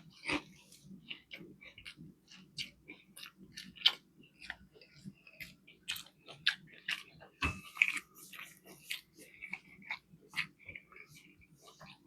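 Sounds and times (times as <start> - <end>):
person chewing with mouth open: 0.0 - 12.0.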